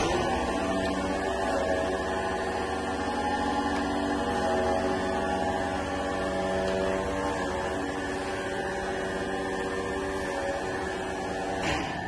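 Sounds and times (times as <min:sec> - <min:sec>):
grinder machine humming: 0:00.0 - 0:12.0.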